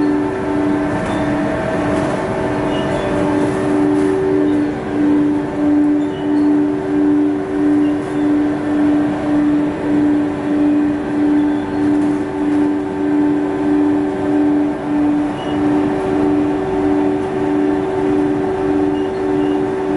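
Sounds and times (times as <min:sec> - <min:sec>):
machine droning hum: 0:00.0 - 0:19.9.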